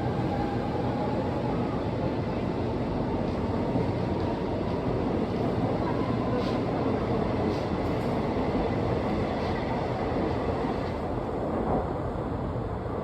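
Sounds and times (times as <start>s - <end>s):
train wheels rumbling on rails: 0.0s - 12.1s.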